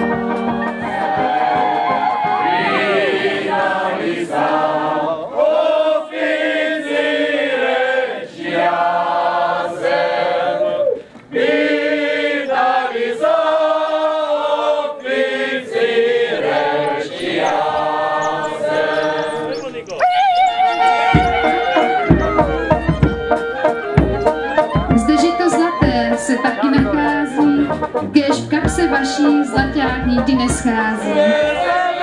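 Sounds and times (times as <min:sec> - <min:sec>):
group singing in harmony: 0:00.0 - 0:32.0.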